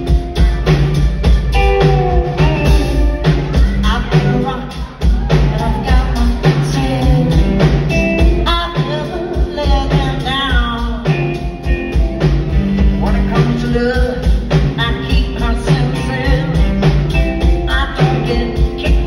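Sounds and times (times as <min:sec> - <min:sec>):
woman singing: 0:00.0 - 0:12.0, 0:12.8 - 0:19.0
drum kit beat: 0:00.0 - 0:19.0
electric guitars: 0:00.0 - 0:19.0
live rock band playing: 0:00.0 - 0:19.0.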